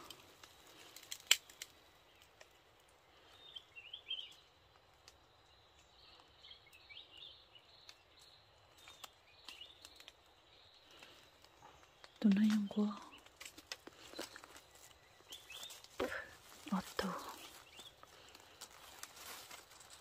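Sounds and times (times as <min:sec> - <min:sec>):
faint bird chirps: 0:00.0 - 0:13.4, 0:14.0 - 0:20.0.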